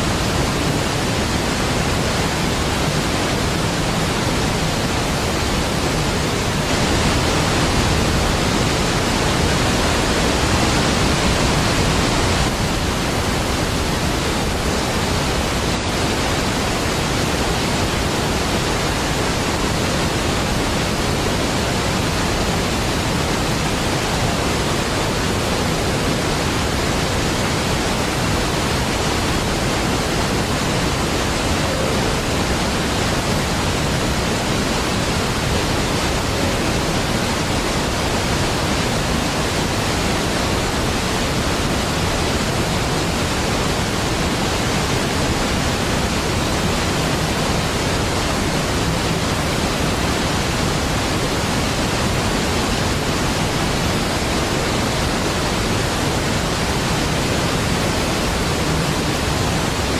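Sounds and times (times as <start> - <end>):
large waterfall rushing: 0.0 - 59.9.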